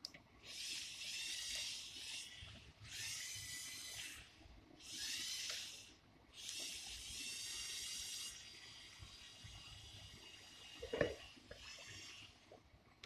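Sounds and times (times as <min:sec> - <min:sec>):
toy motors whirring: 0:00.4 - 0:12.5.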